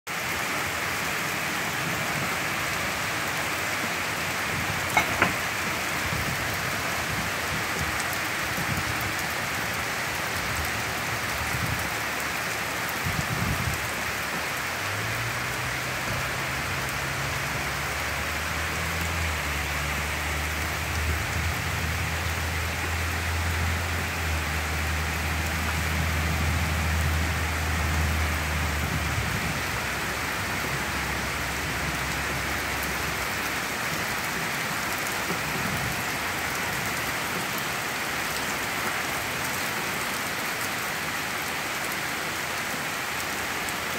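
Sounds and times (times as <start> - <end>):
heavy rain on trees and deck: 0.1 - 43.9.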